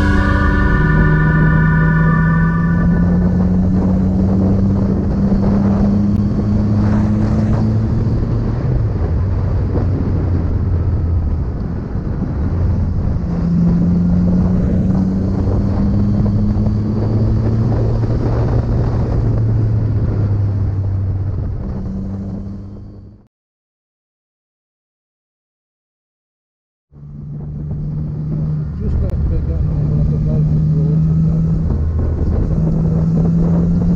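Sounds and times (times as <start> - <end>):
wind rushing over microphone: 0.0 - 23.2, 27.0 - 33.9.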